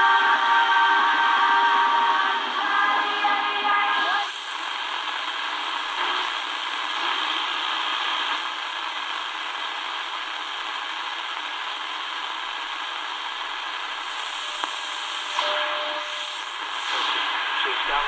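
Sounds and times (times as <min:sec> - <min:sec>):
radio static hissing: 0:00.0 - 0:18.0.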